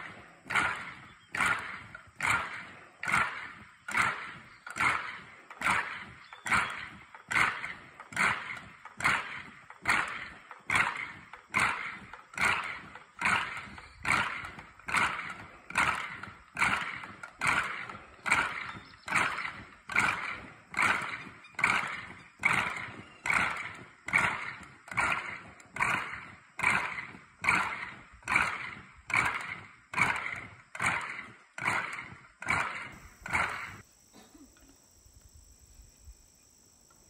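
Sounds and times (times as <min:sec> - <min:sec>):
marching footsteps on gravel: 0:00.0 - 0:33.8.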